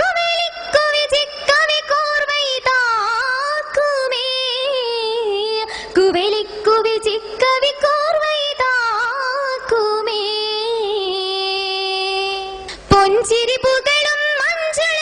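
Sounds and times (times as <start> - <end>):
girl singing into a microphone: 0.0 - 15.0.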